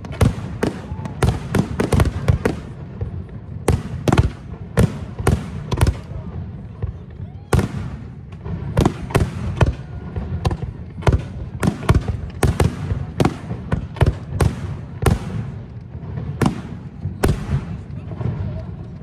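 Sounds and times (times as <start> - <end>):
fireworks bangs with echo: 0.0 - 19.0.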